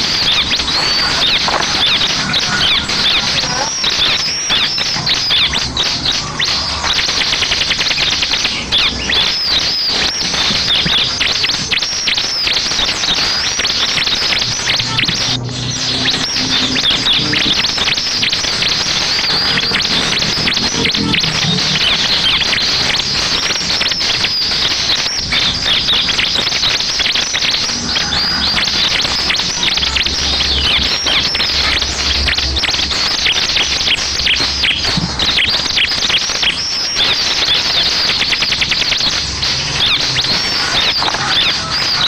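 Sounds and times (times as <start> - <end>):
bird chattering high chirps: 0.0 - 42.0.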